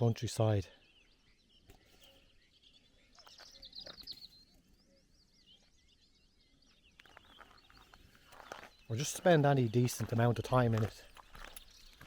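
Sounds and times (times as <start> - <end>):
small birds chirping and trilling: 0.0 - 12.0.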